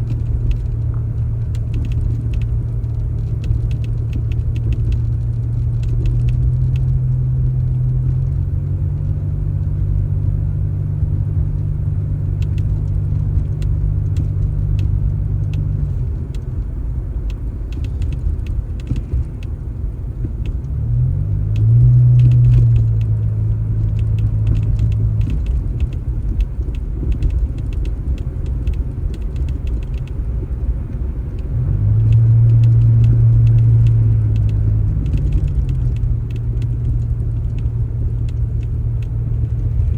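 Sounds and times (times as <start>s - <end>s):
light clicks and rattles: 0.0s - 39.9s
vehicle engine running: 0.0s - 39.9s.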